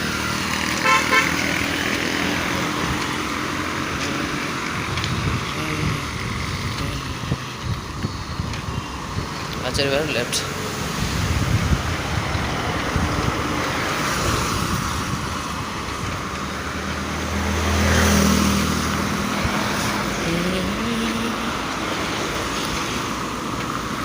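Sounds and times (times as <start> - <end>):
tyres and wind rushing: 0.0 - 24.0
vehicle engine hum: 0.0 - 24.0.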